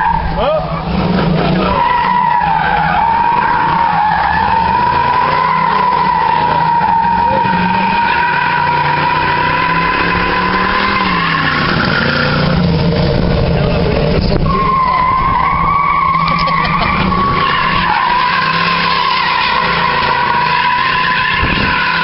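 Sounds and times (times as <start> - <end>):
car engine rumbling: 0.0 - 22.0
tyres squealing: 0.0 - 22.0.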